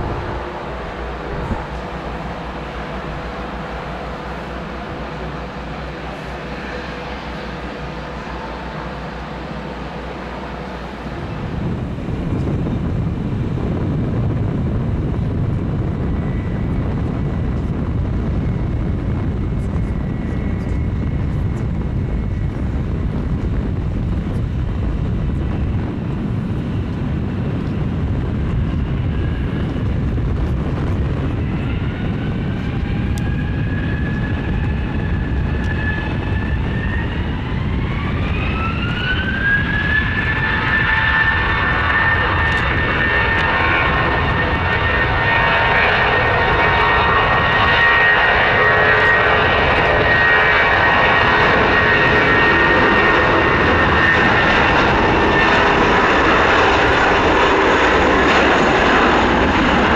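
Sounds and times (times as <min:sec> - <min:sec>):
jet engine whine rising in pitch: 0:00.0 - 0:59.9
jet engines rumbling: 0:00.0 - 0:59.9.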